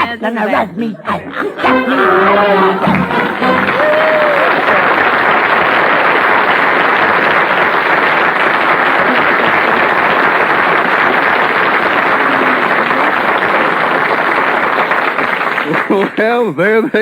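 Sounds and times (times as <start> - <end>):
audience applauding: 2.7 - 16.4.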